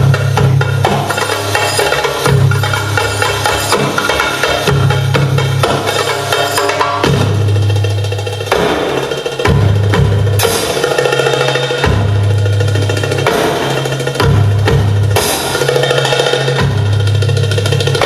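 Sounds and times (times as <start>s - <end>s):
drum-kit beat: 0.0s - 18.0s.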